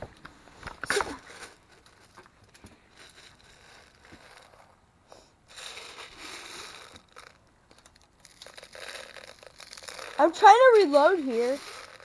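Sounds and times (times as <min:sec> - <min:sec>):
gel beads rustling wetly: 0:00.8 - 0:12.0.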